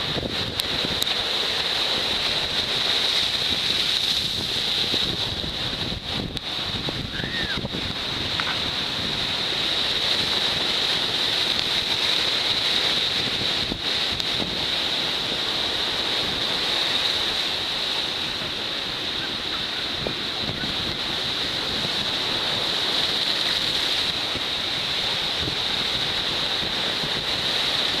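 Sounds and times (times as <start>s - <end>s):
surf breaking on rocky shore: 0.0s - 28.0s
wind buffeting microphone: 0.0s - 28.0s.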